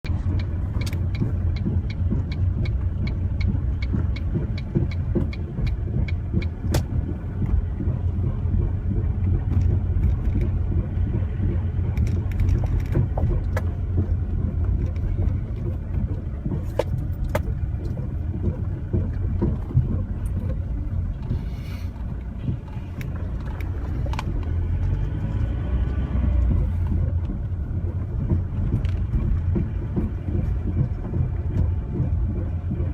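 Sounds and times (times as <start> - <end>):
car road and engine rumble: 0.0 - 32.9.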